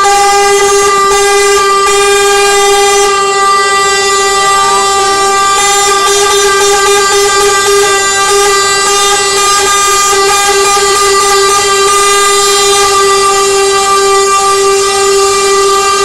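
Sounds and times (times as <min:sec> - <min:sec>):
truck air horn blast: 0:00.0 - 0:16.0.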